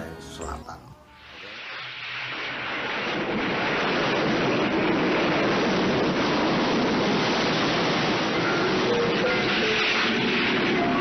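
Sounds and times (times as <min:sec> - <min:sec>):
ocean waves breaking: 0:01.3 - 0:11.0.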